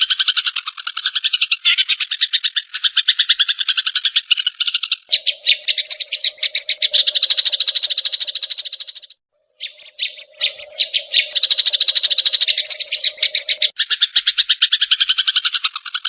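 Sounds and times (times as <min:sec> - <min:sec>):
sparrows chattering: 0:00.0 - 0:16.0.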